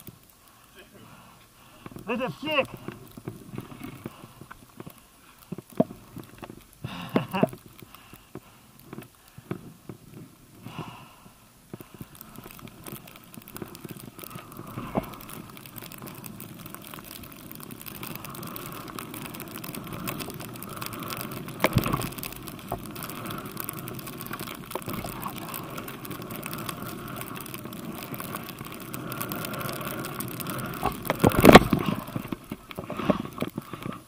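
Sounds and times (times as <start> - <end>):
skis rushing through powder snow: 0.0 - 8.8, 11.9 - 34.0.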